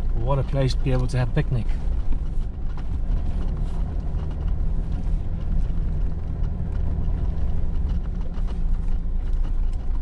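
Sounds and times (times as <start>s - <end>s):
vehicle engine and tyre rumble: 0.0s - 10.0s.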